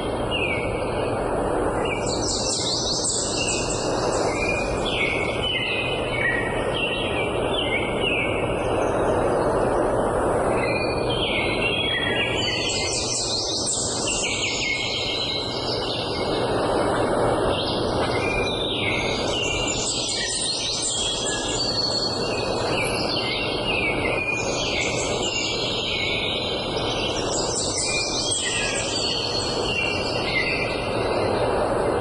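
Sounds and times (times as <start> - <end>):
rushing background noise: 0.0 - 32.0
songbirds chirping and trilling: 0.0 - 32.0.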